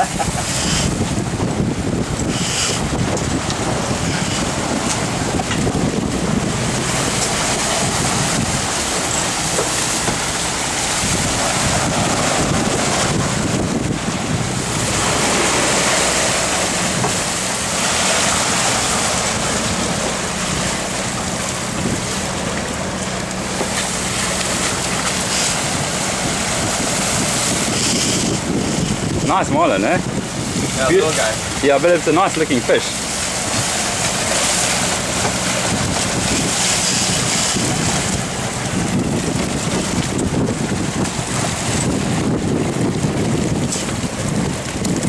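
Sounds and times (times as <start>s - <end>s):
sea water rushing along hull: 0.0s - 45.0s
wind buffeting microphone: 0.0s - 45.0s.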